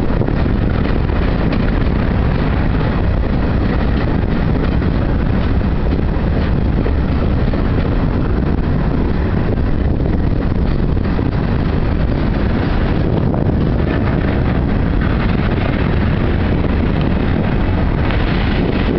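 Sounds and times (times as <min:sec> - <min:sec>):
freight train rumbling: 0:00.0 - 0:18.9.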